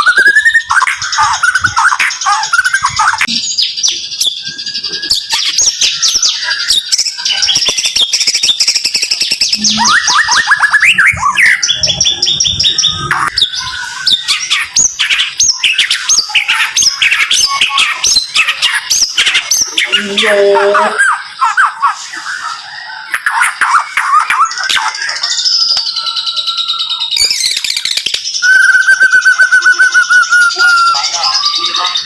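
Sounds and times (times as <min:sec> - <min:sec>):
songbird singing rapid phrases: 0:00.0 - 0:32.0.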